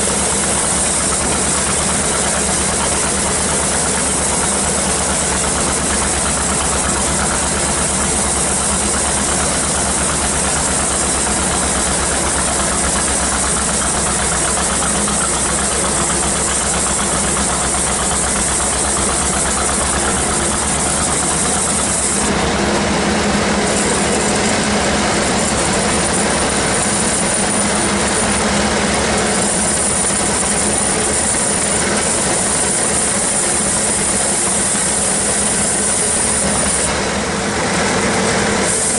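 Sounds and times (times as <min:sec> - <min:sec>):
band sawmill humming and rattling: 0:00.0 - 0:38.9.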